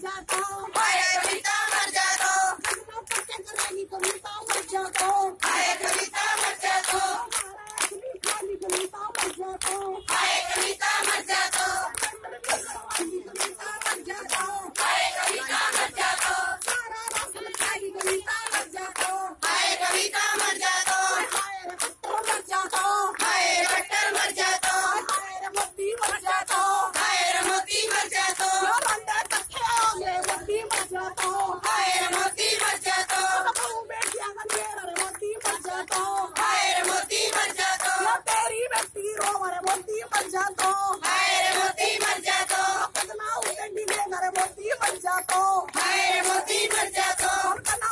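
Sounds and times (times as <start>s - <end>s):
women singing together: 0.0s - 47.9s
hand clapping: 0.1s - 47.9s.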